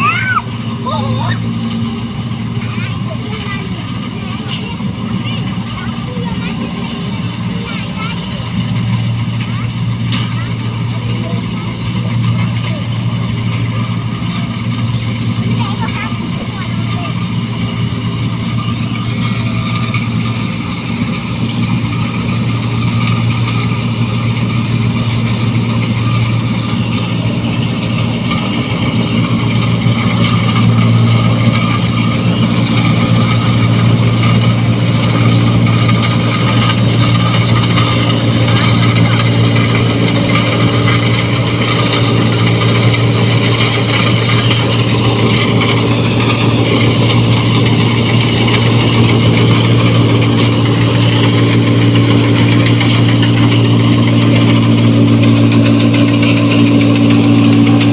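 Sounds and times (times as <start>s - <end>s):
combine harvester engine running: 0.0s - 57.9s.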